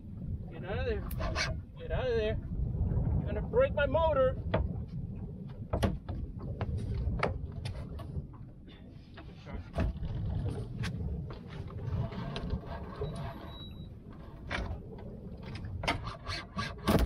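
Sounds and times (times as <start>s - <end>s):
low uneven rumble: 0.0s - 17.0s.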